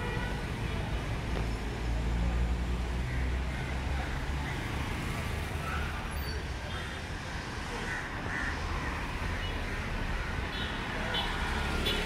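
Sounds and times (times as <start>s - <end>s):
passing cars and motorbikes: 0.0s - 12.0s.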